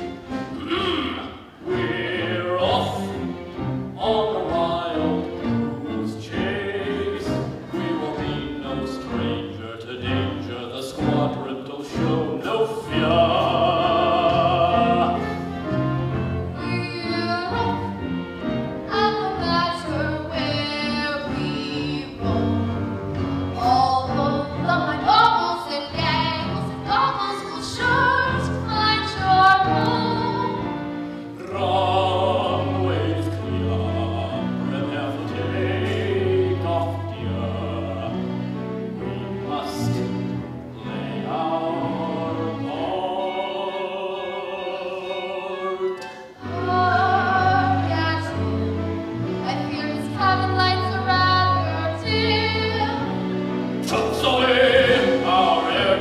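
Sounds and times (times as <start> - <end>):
chorus of voices singing: 0.0 - 18.0, 23.5 - 48.6, 49.4 - 56.0
instrumental accompaniment: 0.0 - 56.0.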